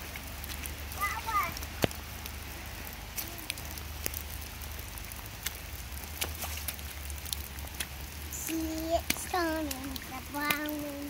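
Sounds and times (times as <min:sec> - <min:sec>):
sharp ticks of raindrops: 0:00.0 - 0:11.0
steady rain patter: 0:00.0 - 0:11.0.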